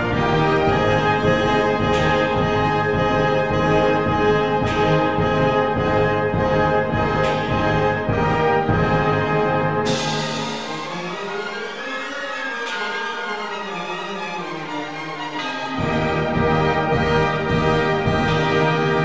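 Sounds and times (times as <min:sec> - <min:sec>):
brass sustained chords: 0:00.0 - 0:19.0
sharp orchestral hit: 0:00.0 - 0:19.0.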